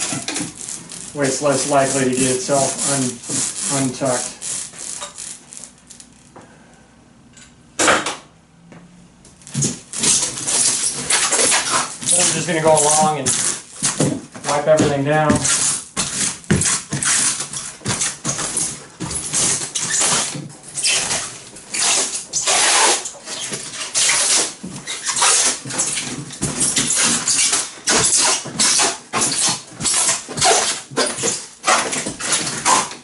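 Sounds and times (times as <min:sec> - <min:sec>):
plastic wrap rustling: 0:00.0 - 0:06.3, 0:09.4 - 0:33.0.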